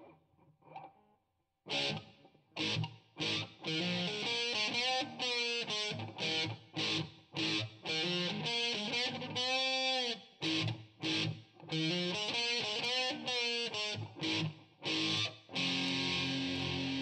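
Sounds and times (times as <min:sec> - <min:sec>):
electric guitar riffs: 0:01.7 - 0:17.0.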